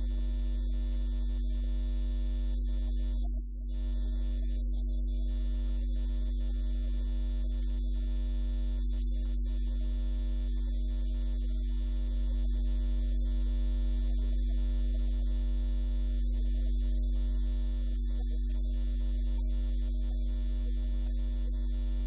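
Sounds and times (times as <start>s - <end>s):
electrical mains hum: 0.0s - 22.0s
faint buzzing tones: 0.0s - 22.0s.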